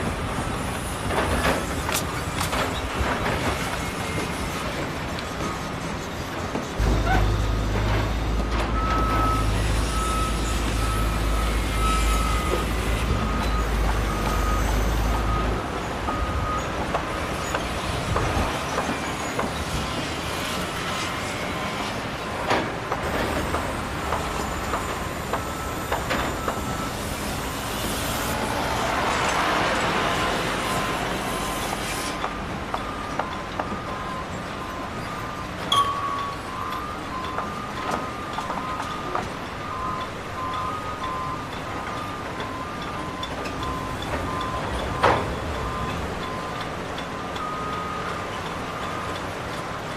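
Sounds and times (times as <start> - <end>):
heavy machinery and trucks running: 0.0 - 49.9
reversing alarm beeps: 6.8 - 21.9, 23.1 - 29.0, 30.2 - 49.9.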